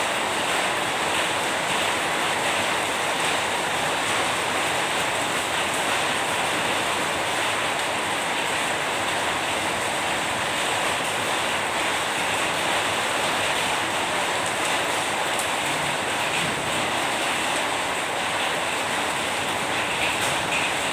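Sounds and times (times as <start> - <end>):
steady rain hiss: 0.0 - 20.9.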